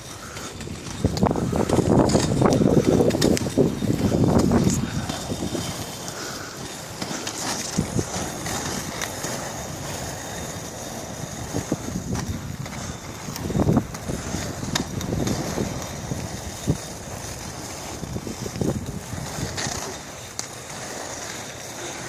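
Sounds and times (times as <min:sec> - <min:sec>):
wind buffeting microphone: 0:00.5 - 0:20.1.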